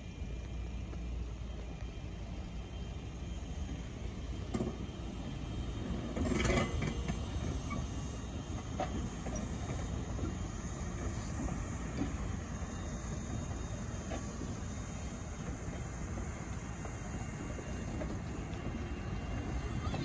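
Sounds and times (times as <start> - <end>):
train rolling slowly past: 0.0 - 20.0.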